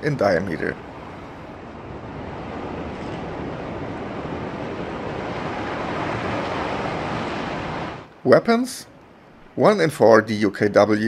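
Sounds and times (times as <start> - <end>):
surf breaking and washing: 0.0 - 9.9.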